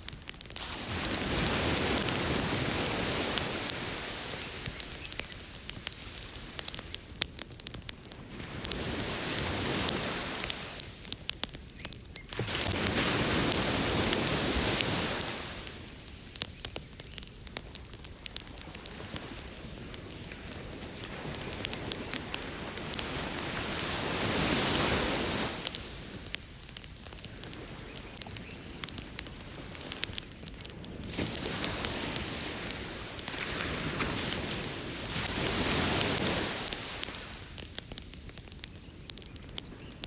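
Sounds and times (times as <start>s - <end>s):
ocean waves: 0.0s - 6.9s, 8.1s - 10.9s, 12.3s - 16.4s, 17.8s - 28.0s, 28.7s - 37.8s
bonfire crackling and popping: 0.0s - 40.0s.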